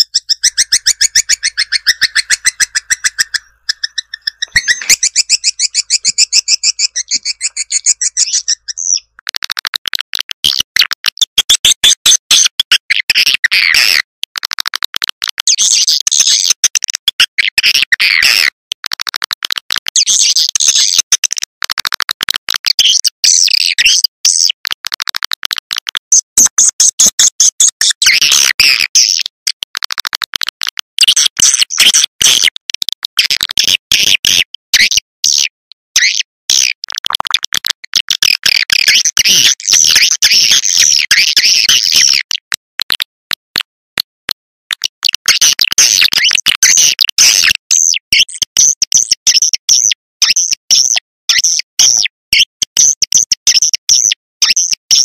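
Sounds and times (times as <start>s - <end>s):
swiftlets twittering and chirping: 0.0s - 14.0s, 15.5s - 18.6s, 20.0s - 21.4s, 22.5s - 24.6s, 26.1s - 29.5s, 31.0s - 42.4s, 44.8s - 55.0s.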